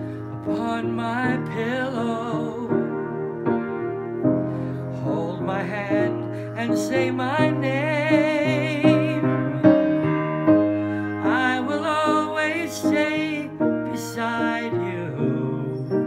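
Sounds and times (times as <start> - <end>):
man singing with vibrato: 0.0 - 3.6, 4.6 - 10.0, 10.7 - 16.0
piano chords: 0.0 - 16.0.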